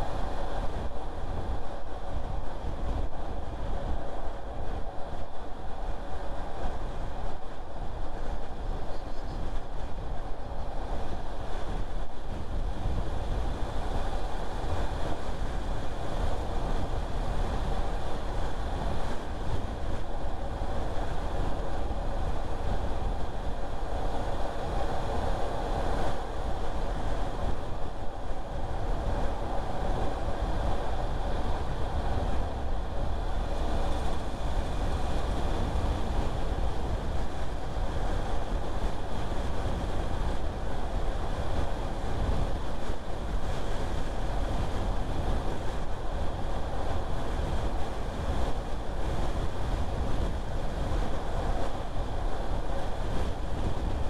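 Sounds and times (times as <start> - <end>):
car road and tyre noise: 0.0 - 54.0.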